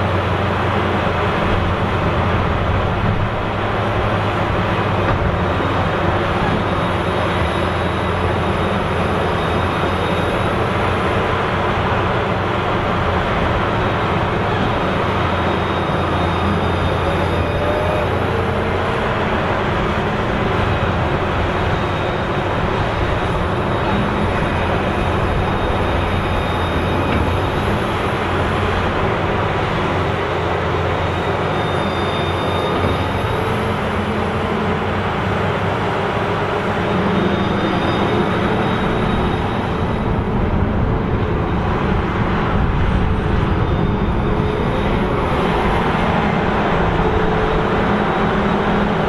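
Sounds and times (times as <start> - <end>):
heavy diesel engines under load: 0.0 - 49.0.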